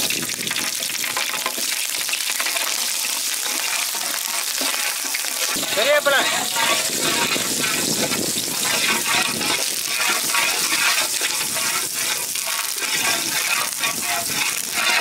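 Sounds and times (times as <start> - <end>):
hot oil sizzling in a pan: 0.0 - 15.0.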